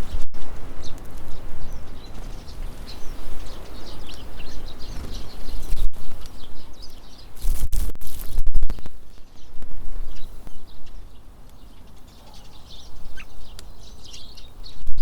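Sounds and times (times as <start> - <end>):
tits chirping: 0.0 - 14.8
wind rumbling on microphone: 0.0 - 15.0.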